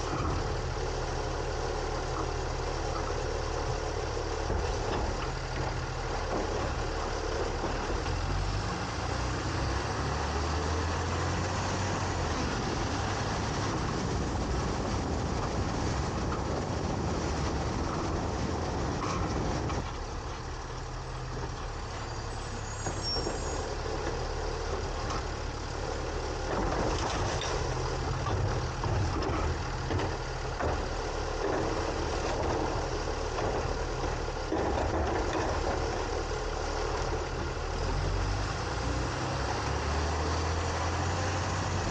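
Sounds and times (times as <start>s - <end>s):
garbage truck engine running: 0.0s - 41.9s
truck packer working: 0.0s - 41.9s.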